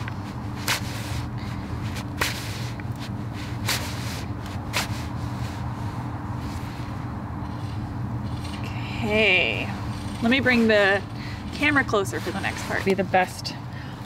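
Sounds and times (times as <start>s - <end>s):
knife carving wood shavings: 0.0s - 5.7s, 7.4s - 13.4s.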